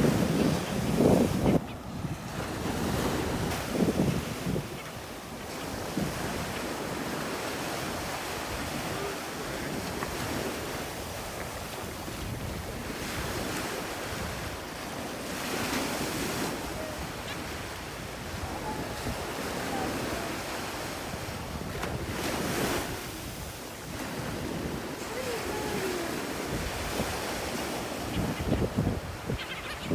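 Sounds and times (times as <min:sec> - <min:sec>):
wind buffeting microphone: 0:00.0 - 0:14.8, 0:15.4 - 0:29.9
waves washing in: 0:00.0 - 0:28.2.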